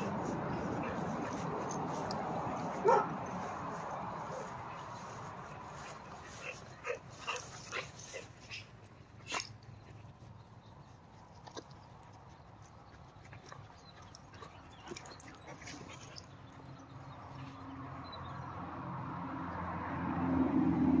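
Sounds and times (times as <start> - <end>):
dogs scuffling on grass: 0.0 - 17.6.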